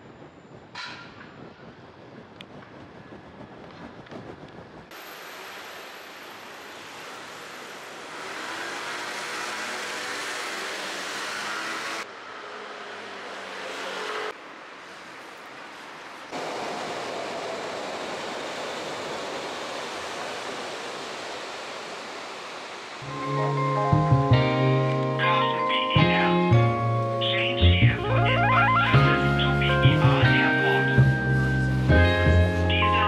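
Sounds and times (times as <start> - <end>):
road traffic noise: 4.9 - 33.0.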